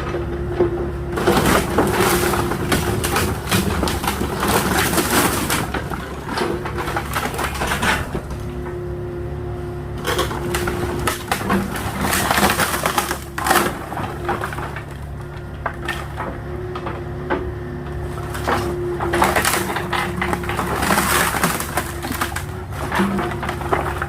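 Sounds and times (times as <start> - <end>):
wooden pallets crunching and cracking: 0.0 - 8.9, 9.9 - 24.0
excavator engine running: 0.0 - 24.0.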